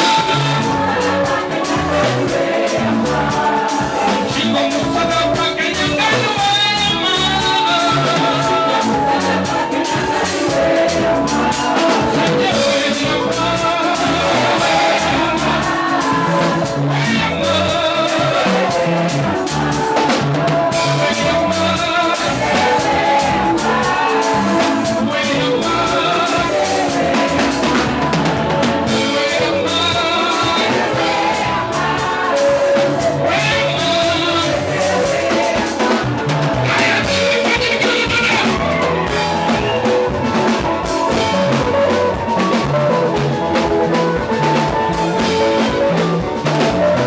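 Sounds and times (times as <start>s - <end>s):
band playing drums and guitar: 0.0s - 47.0s
person singing: 0.0s - 47.0s.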